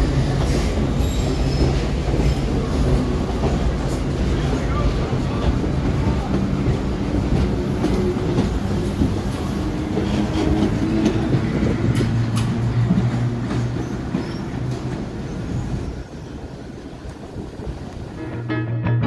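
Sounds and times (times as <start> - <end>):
subway train rumbling on rails: 0.0 - 19.0.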